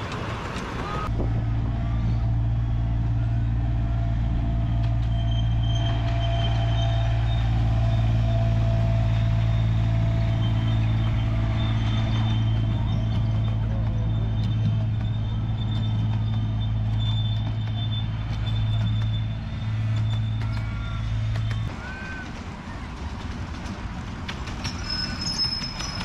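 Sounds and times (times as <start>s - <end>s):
miniature train rumbling hum: 0.0s - 26.0s
wheels clicking on track: 0.0s - 26.0s.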